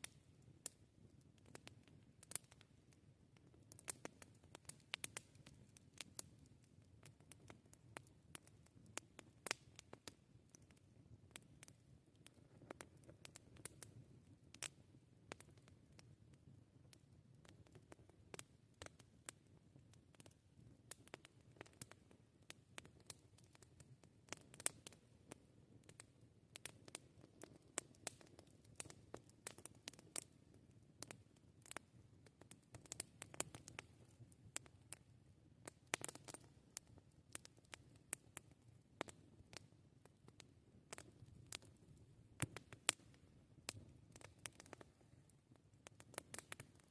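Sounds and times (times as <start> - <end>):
campfire crackling and popping: 0.0 - 46.9
low rumble of burning fire: 0.0 - 46.9.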